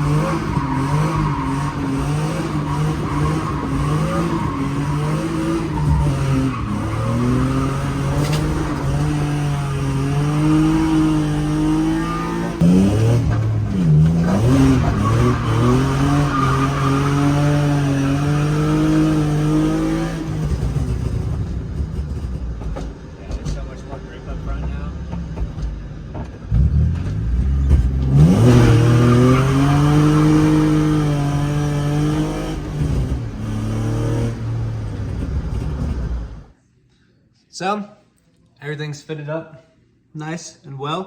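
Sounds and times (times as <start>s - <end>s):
car engine revving under load: 0.0s - 36.6s.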